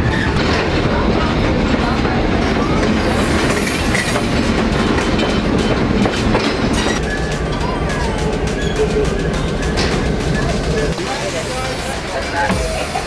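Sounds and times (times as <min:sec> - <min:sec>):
train cars rumbling and rattling: 0:00.0 - 0:13.0.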